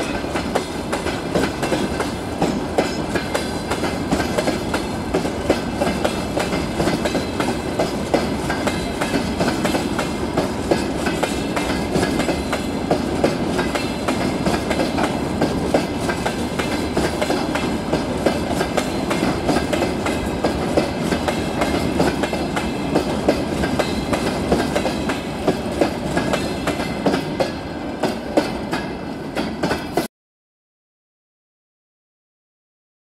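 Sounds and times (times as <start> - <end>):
train wheels clattering over track: 0.0 - 30.1.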